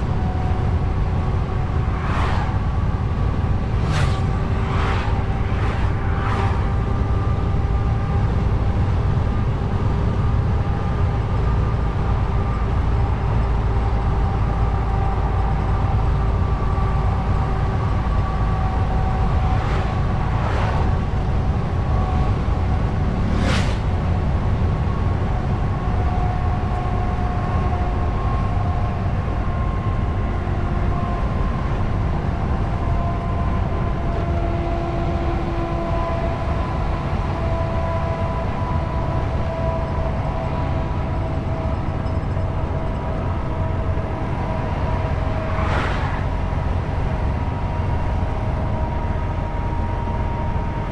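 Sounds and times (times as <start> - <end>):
passing vehicles whooshing: 0.0 - 27.0, 36.2 - 50.9
truck engine drone in cab: 0.0 - 50.9.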